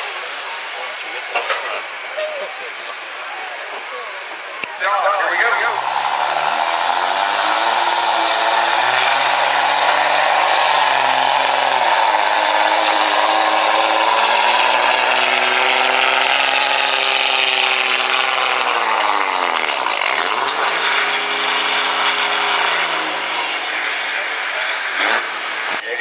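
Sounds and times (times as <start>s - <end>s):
diesel engine at full throttle: 0.0s - 26.0s.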